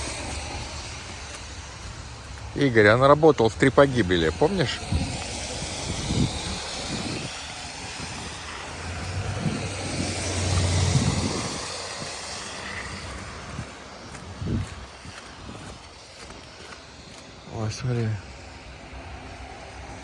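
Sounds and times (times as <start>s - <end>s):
low engine hum: 0.0s - 17.5s
tyre hiss on slush: 0.0s - 20.0s.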